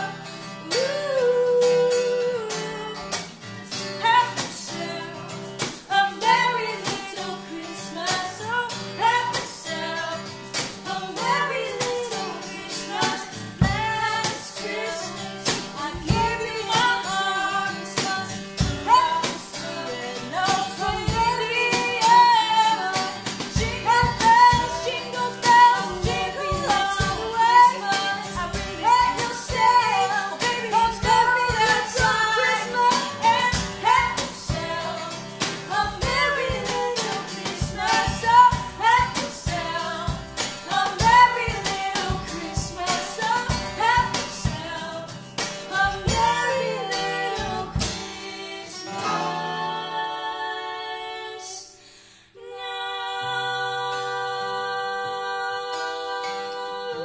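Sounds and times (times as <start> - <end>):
women singing in harmony: 0.0 - 3.3, 4.0 - 57.0
acoustic guitar: 0.0 - 57.0
hand percussion: 0.7 - 48.4.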